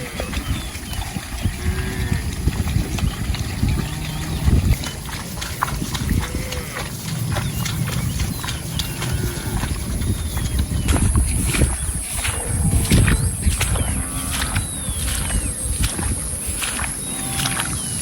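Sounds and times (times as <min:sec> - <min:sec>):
cattle calls: 0:00.0 - 0:18.0
cattle feeding rustling and knocking: 0:00.2 - 0:18.0.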